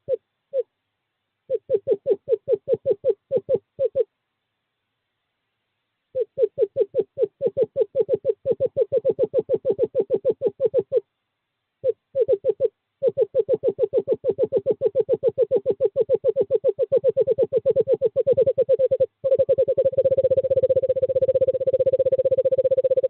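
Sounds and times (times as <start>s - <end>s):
owl whistled trill: 1.5s - 4.1s, 6.2s - 11.0s, 11.8s - 23.0s.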